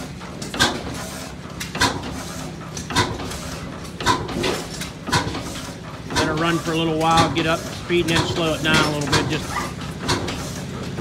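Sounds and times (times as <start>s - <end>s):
gas engine exhaust beats: 0.0s - 11.0s.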